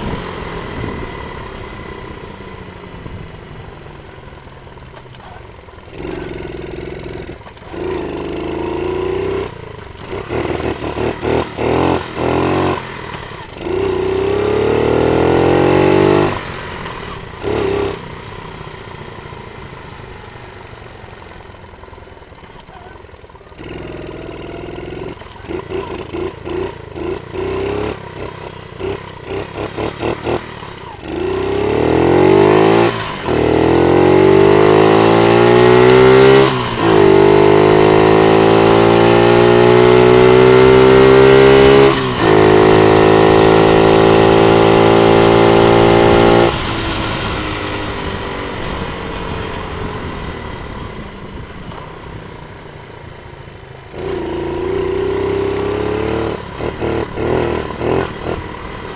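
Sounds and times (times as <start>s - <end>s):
dirt bike engine revving: 4.7s - 18.8s, 22.5s - 51.9s, 53.8s - 58.9s.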